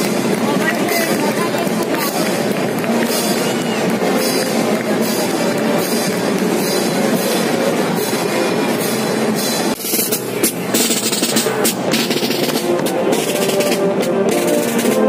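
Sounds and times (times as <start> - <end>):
drum beat: 0.0 - 15.0
loud street noise: 0.0 - 15.0
parade music: 0.0 - 15.0.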